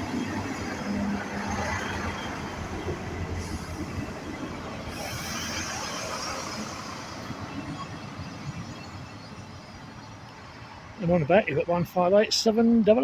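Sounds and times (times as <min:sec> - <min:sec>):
train diesel engine running: 0:00.0 - 0:11.3
wheels rumbling on rails: 0:00.0 - 0:12.1.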